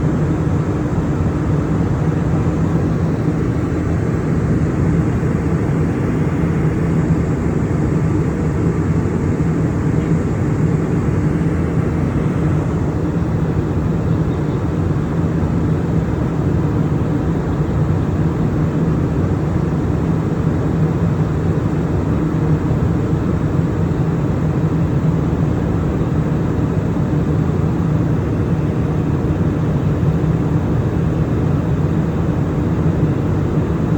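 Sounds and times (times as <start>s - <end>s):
airplane cabin drone: 0.0s - 33.9s.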